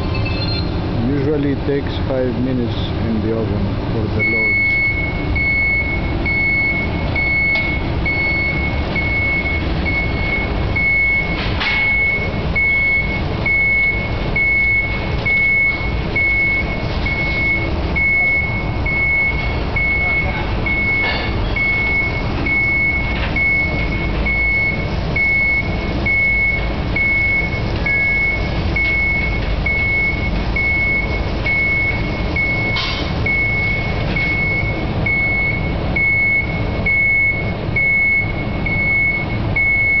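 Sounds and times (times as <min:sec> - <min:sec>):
high warning beeps: 0:00.0 - 0:00.8, 0:04.2 - 0:40.0
trolley rumbling: 0:00.0 - 0:40.0.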